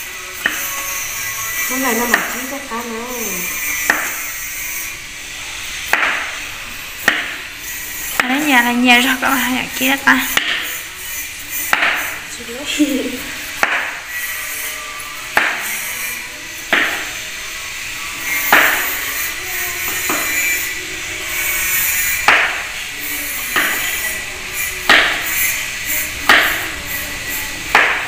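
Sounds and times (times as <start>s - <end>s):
faint background music: 0.0s - 28.0s.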